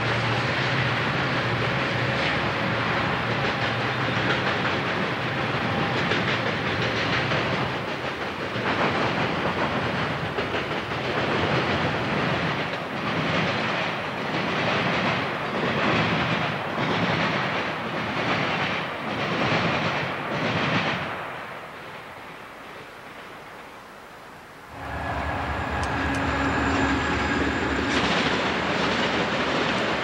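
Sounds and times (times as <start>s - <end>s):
freight train rumbling and rattling: 0.0s - 23.8s, 24.6s - 30.0s.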